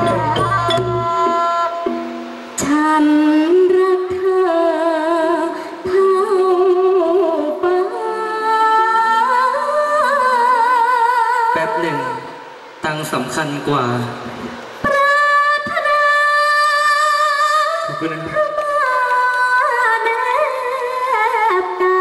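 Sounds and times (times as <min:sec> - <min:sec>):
person singing through microphone: 0:00.0 - 0:12.5, 0:14.8 - 0:22.0.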